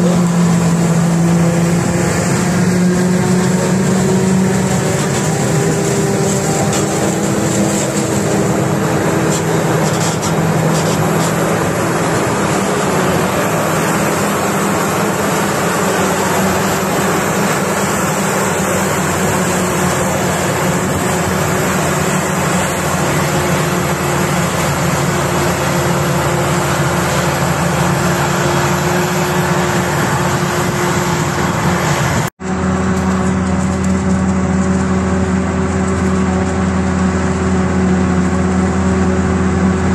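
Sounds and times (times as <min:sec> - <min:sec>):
diesel farm machinery running: 0:00.0 - 0:39.9.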